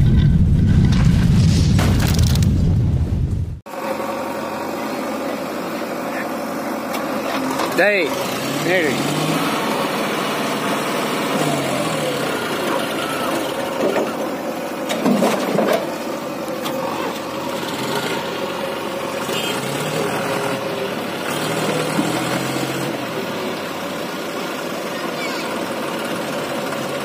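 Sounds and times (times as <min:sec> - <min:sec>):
diesel engines running: 0:03.7 - 0:27.0.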